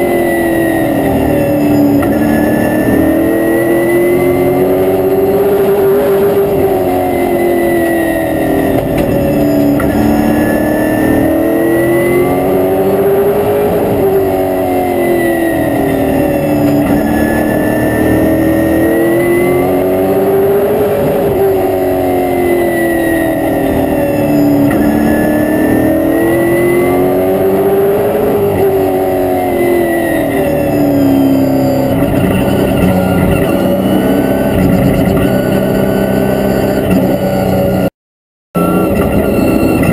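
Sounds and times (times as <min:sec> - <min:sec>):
racing car engine revving: 0:00.0 - 0:37.9, 0:38.6 - 0:39.9.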